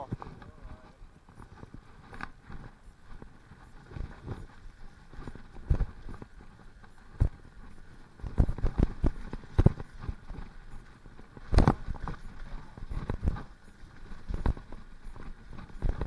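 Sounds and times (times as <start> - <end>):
mountain bike rattling and knocking: 0.0 - 16.0.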